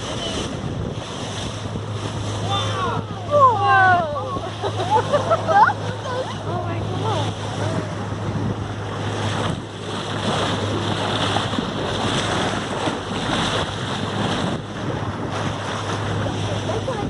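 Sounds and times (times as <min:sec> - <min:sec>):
choppy sea water rushing: 0:00.0 - 0:17.0
low engine hum: 0:00.0 - 0:17.0
wind buffeting microphone: 0:00.0 - 0:17.0.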